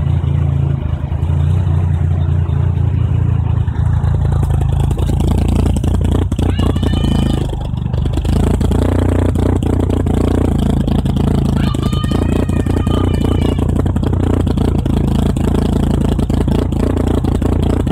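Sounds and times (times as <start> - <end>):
car engine idling: 0.0 - 17.9
engine clicks and clatter: 0.0 - 17.9.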